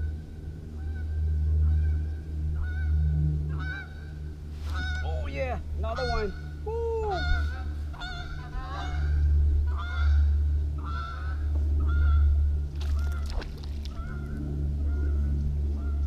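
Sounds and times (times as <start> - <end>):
geese honking: 0.0 - 13.3, 13.9 - 16.0
steady low rumble: 0.0 - 16.0.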